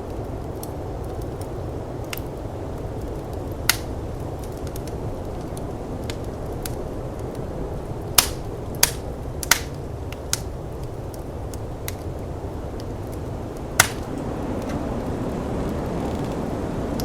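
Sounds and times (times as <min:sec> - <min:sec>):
snowstorm wind rushing: 0:00.0 - 0:17.0
wood fire crackling and popping: 0:00.0 - 0:17.0.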